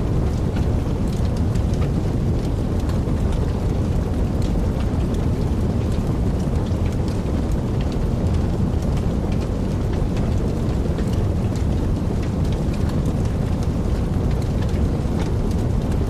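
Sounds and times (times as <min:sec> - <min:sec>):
wood fire burning: 0:00.0 - 0:16.0.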